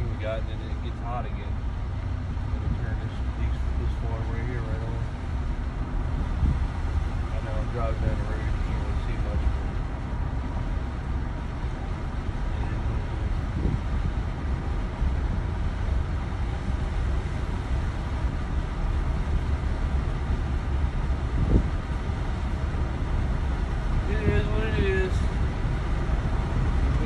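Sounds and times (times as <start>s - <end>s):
vehicle road noise rumble: 0.0s - 27.0s.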